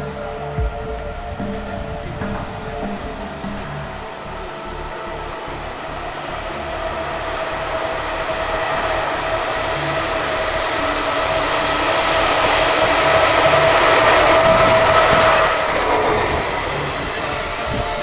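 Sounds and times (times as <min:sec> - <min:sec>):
electric locomotive approaching: 0:00.0 - 0:18.0.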